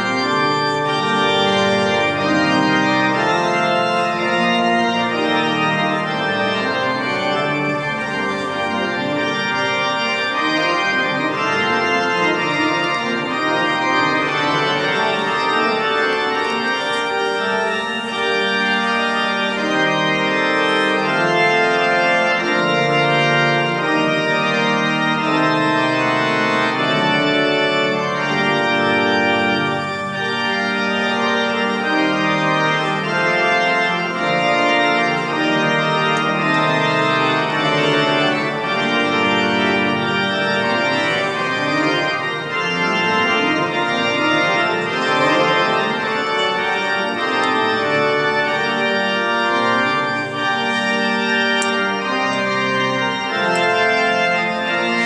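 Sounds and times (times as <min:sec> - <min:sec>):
pipe organ playing: 0:00.0 - 0:55.0.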